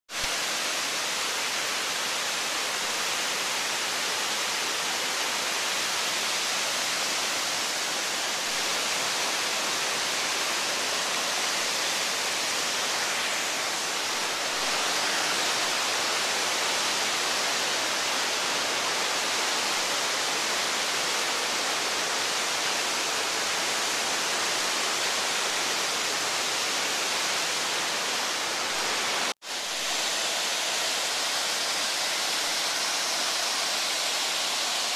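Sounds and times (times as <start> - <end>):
waterfall rushing over rocks: 0.1 - 34.9.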